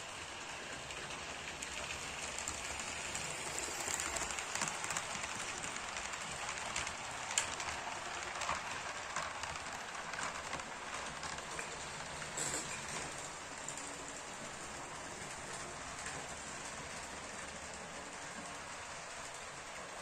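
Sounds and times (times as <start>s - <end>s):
model train wheels clattering on rails: 0.0s - 20.0s.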